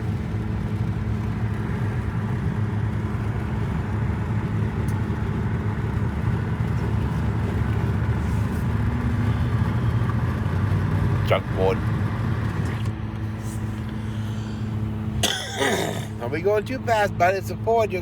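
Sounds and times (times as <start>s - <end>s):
vehicle engine and tyre drone: 0.0s - 18.0s.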